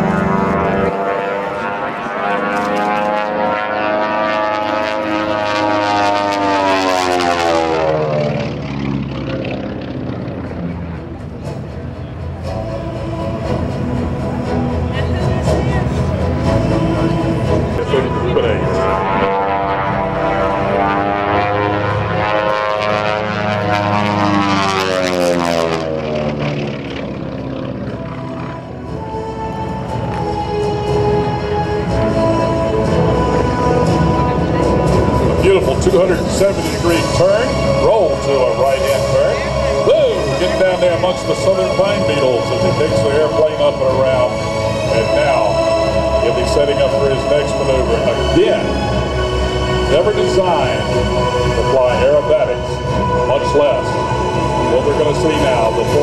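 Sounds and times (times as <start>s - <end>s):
airplane radial engines droning: 0.0s - 56.0s
propeller aircraft passing: 0.0s - 56.0s.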